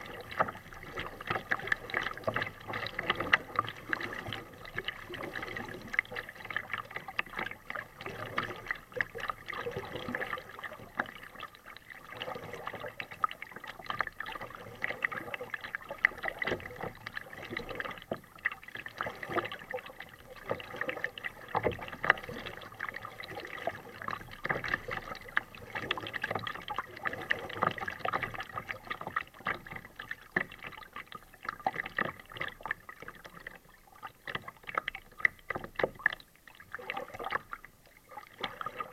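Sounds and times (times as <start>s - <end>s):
paddle blades dipping: 0.0s - 38.9s
water splashing against kayak: 0.0s - 38.9s.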